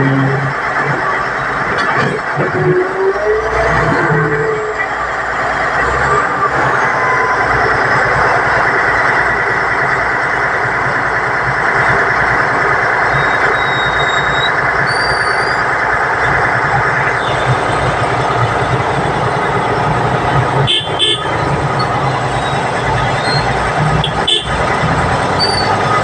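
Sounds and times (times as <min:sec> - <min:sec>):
truck diesel engine passing: 0:00.0 - 0:26.0
truck tyres on road: 0:00.0 - 0:26.0.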